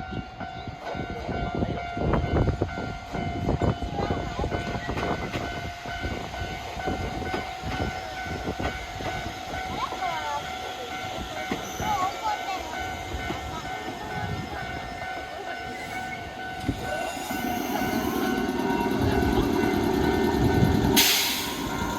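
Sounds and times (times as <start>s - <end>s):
crossing warning bell: 0.0s - 21.9s
train wheels knocking on rails: 3.4s - 21.9s.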